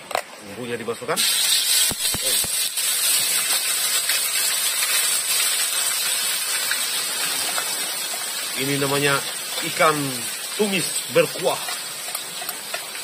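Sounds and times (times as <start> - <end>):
paste sizzling in hot oil: 1.0 - 13.0.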